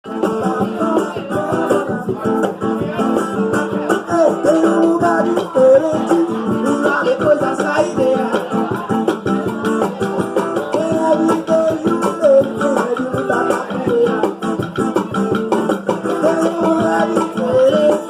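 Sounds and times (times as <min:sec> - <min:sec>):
plucked guitar: 0:00.0 - 0:18.0
shaker-like percussion: 0:00.1 - 0:18.0.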